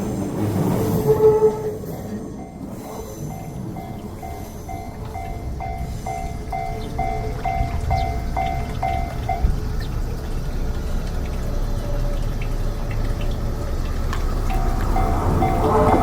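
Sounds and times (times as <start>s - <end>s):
crossing warning bell ringing: 0.9s - 16.0s.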